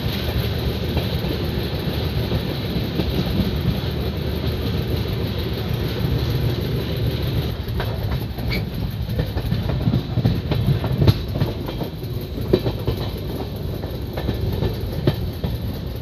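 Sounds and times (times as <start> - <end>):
train rumble: 0.0 - 16.0
wheels clicking over track: 0.0 - 16.0.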